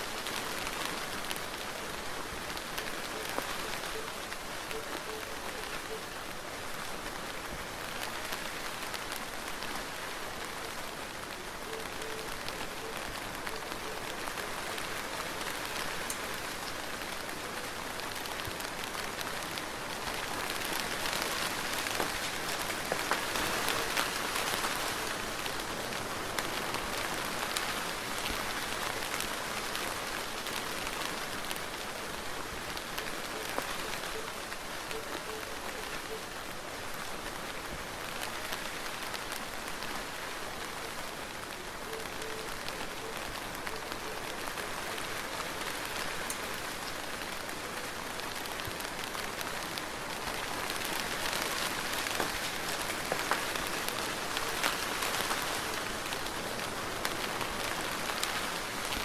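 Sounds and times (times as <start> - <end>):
soft steady rain: 0.0 - 59.0.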